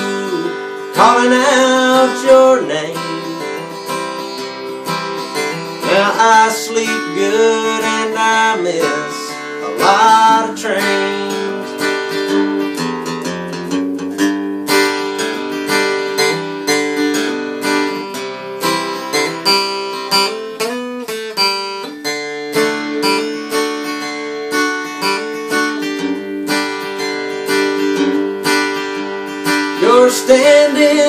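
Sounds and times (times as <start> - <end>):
acoustic guitar playing: 0.0 - 31.0.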